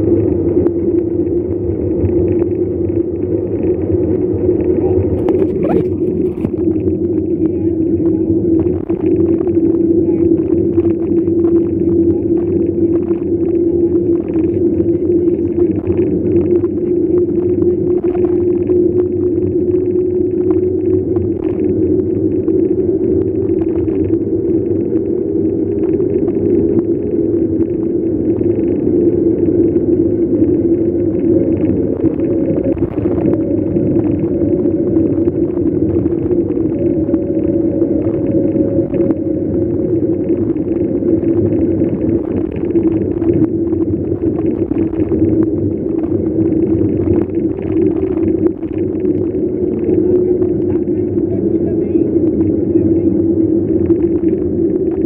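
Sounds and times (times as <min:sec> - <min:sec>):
steady low drone: 0:00.0 - 0:55.0
wind rumble on microphone: 0:00.0 - 0:55.0.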